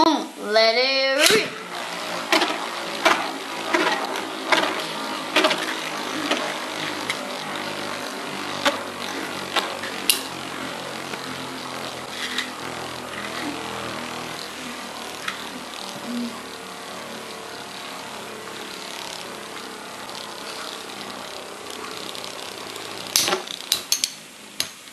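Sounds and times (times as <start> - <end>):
spinning tops whirring: 0.4 - 24.9
spinning tops clacking: 1.2 - 17.4, 18.2 - 24.8.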